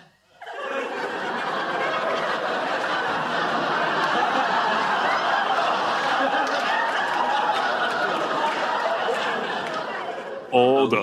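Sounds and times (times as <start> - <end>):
audience laughing: 0.4 - 10.5.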